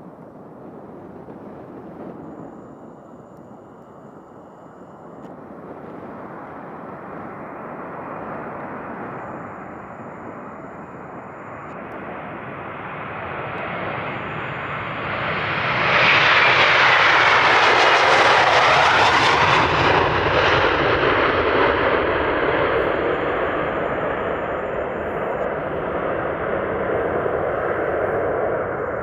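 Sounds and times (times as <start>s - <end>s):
jet airliner taking off: 0.0s - 29.0s.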